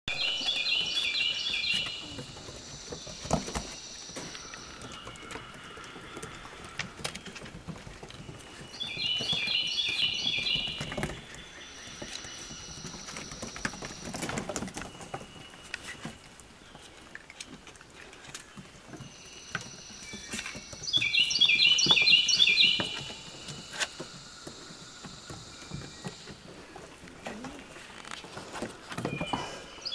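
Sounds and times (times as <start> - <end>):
bird chirping: 0.1 - 17.6, 18.4 - 27.6, 28.9 - 29.9
puppy paws pattering on wood: 0.2 - 29.9.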